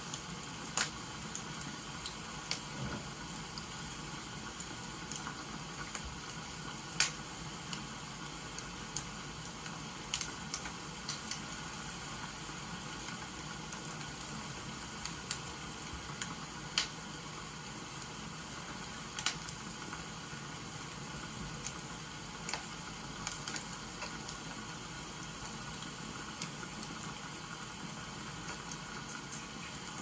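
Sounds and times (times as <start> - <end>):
rain hissing: 0.0 - 30.0
wood fire crackling and popping: 0.0 - 30.0.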